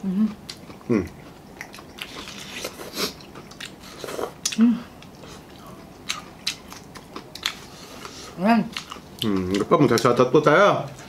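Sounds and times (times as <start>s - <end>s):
wet chewing and lip smacks: 0.3s - 10.2s.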